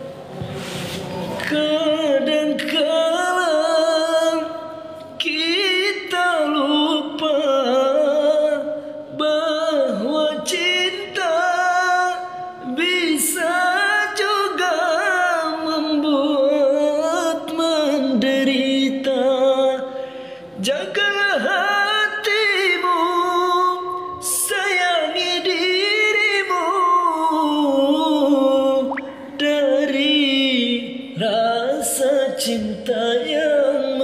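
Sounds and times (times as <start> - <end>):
man singing unaccompanied: 1.4 - 20.0, 20.6 - 34.0.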